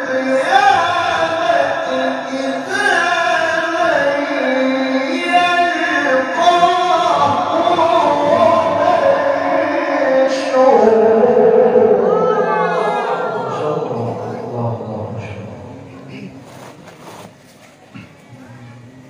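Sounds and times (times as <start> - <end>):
man reciting melodically: 0.0 - 16.4.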